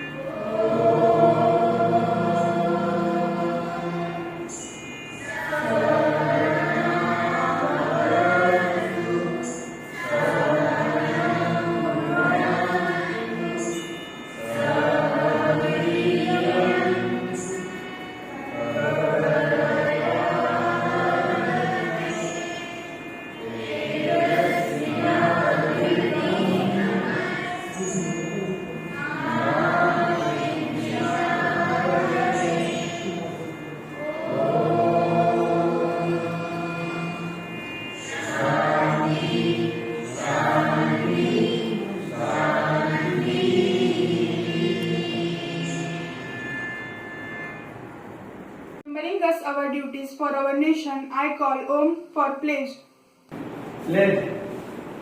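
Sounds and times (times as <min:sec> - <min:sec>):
group of voices singing: 0:00.0 - 0:46.8.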